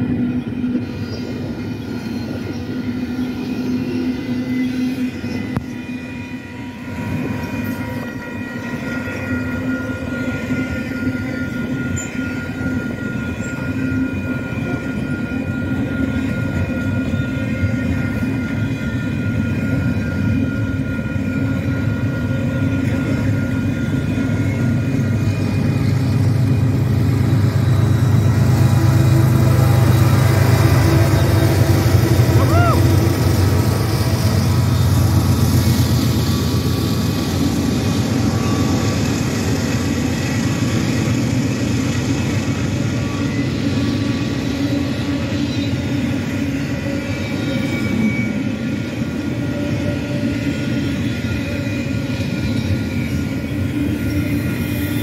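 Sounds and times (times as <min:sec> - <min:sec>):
diesel locomotive rumble: 0:00.0 - 0:55.0.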